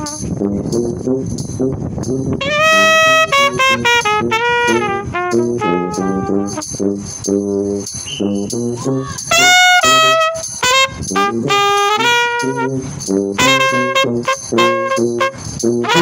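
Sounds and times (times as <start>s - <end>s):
trumpet playing melody: 0.0s - 16.0s.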